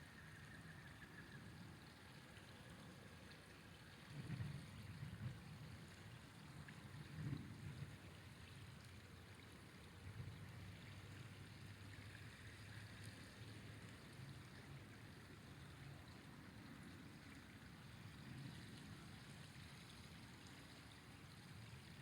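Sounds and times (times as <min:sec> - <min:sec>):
flowing river rumble: 0:00.0 - 0:22.0.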